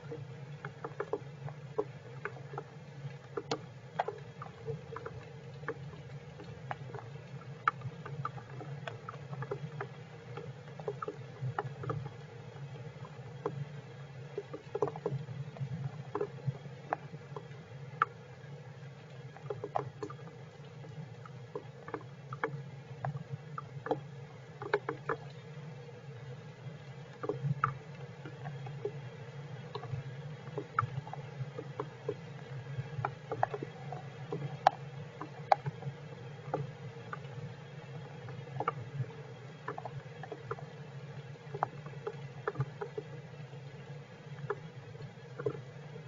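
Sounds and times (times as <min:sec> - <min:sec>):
raindrops ticking: 0:00.0 - 0:18.2, 0:19.2 - 0:25.6, 0:27.0 - 0:40.8, 0:41.4 - 0:43.1.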